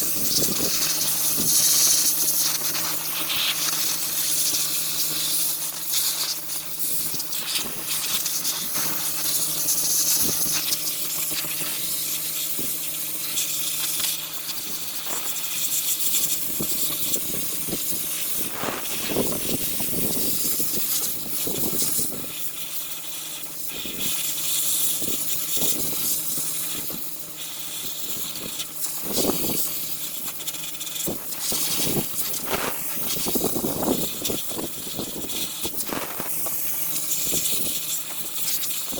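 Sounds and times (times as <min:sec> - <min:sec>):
sandblaster hissing: 0:00.0 - 0:38.9.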